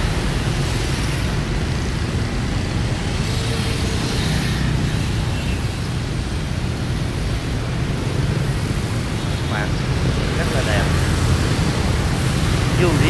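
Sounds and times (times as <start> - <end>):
motorbikes passing: 0.0 - 13.0
traffic rush of engines and tyres: 0.0 - 13.0.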